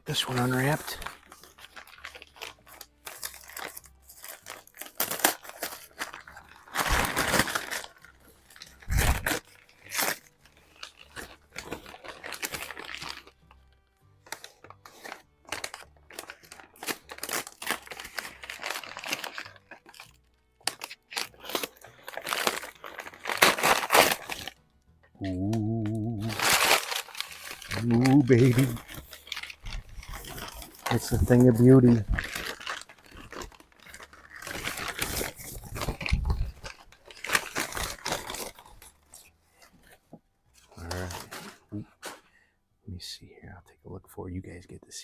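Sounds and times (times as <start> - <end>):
packing material tearing and crinkling: 0.1 - 24.6, 25.2 - 42.2.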